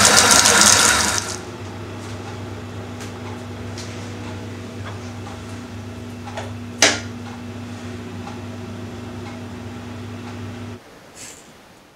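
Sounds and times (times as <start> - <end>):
electric kettle humming: 0.0 - 10.8.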